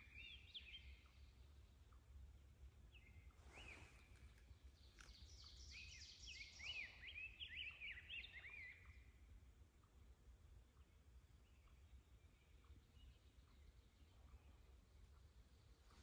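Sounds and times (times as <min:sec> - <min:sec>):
songbirds chirping and singing: 0:00.0 - 0:16.0.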